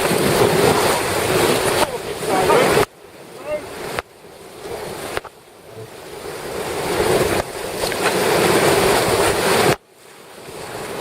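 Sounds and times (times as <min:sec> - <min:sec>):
river rapids rushing: 0:00.0 - 0:09.8
wind buffeting microphone: 0:00.0 - 0:09.8.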